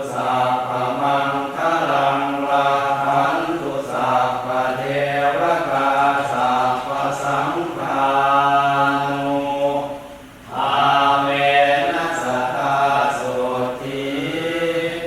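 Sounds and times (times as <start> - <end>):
low monotone chanting: 0.0 - 15.0.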